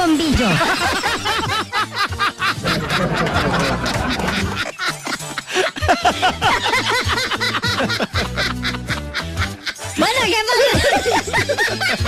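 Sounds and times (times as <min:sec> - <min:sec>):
background music: 0:00.0 - 0:12.0
people snickering and chuckling: 0:00.4 - 0:12.0.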